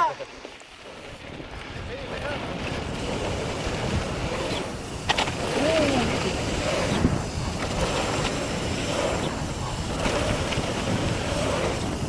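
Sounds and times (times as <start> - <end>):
bike tyres rumbling on trail: 0.0 - 12.0
wind on microphone: 0.0 - 12.0.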